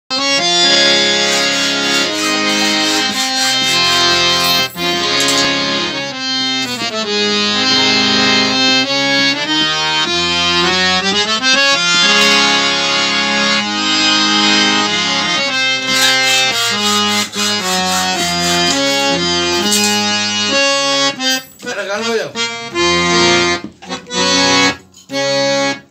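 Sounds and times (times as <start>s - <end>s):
harmonium playing a tune: 0.1s - 25.9s.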